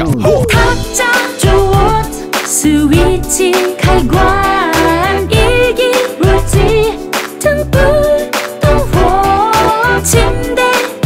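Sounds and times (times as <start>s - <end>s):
person singing: 0.0s - 11.0s
upbeat pop song: 0.0s - 11.0s.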